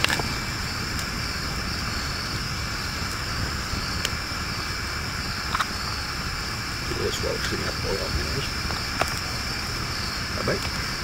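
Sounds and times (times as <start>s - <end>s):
background hiss: 0.0s - 11.0s
faint high hum: 0.0s - 11.0s.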